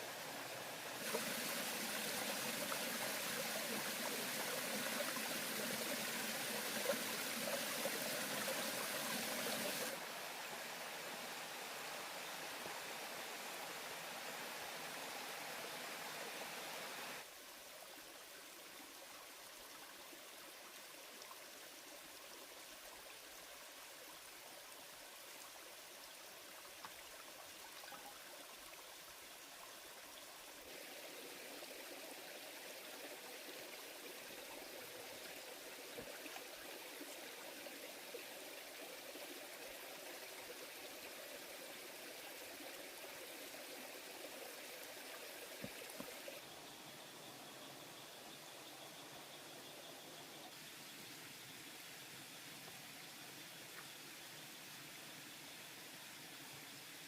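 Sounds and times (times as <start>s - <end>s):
small stream running: 0.0s - 57.0s.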